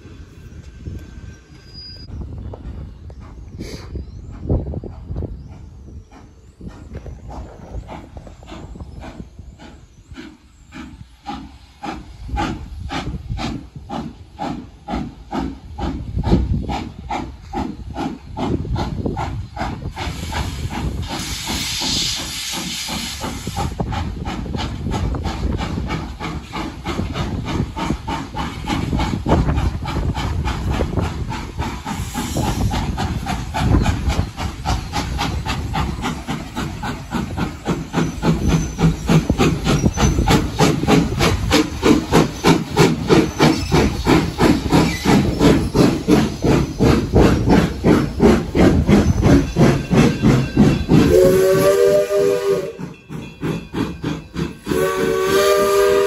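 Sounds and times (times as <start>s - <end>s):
steam locomotive chuffing: 0.0s - 56.0s
steam venting hiss: 2.8s - 56.0s.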